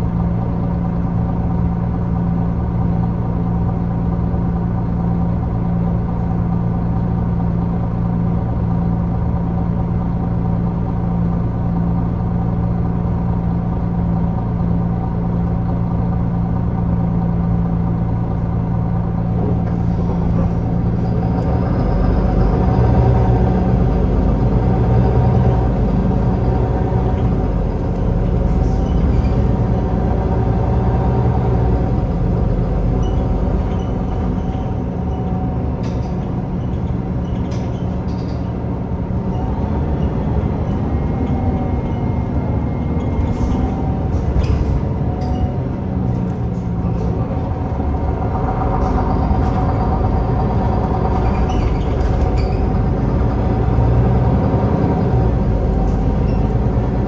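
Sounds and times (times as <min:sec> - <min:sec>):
diesel bus engine rumbling: 0:00.0 - 0:57.0.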